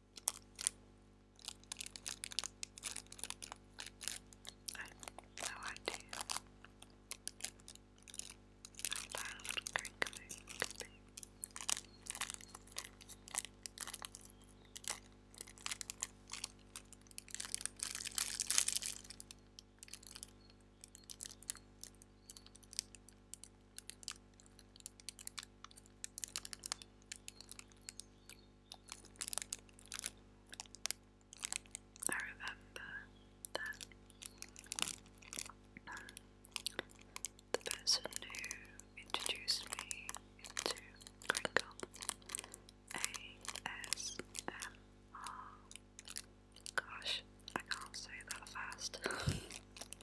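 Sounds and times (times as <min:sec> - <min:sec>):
plastic crinkling against microphone: 0:00.1 - 0:00.8, 0:01.4 - 0:50.0.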